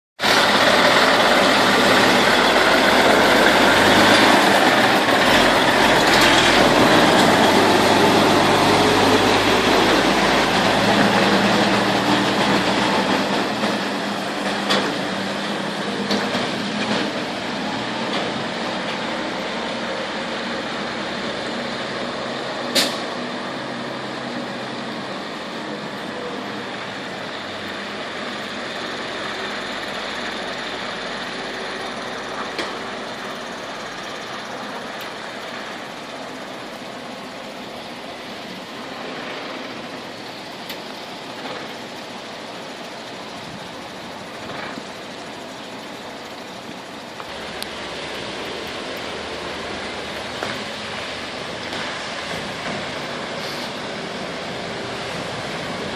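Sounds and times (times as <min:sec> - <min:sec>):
diesel truck engine running: 0:00.2 - 0:55.9.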